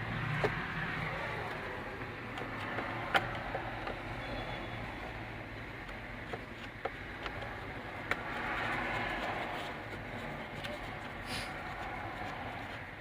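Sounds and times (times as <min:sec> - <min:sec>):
tools clicking and tapping: 0:00.3 - 0:00.7, 0:01.4 - 0:04.8, 0:05.5 - 0:13.0.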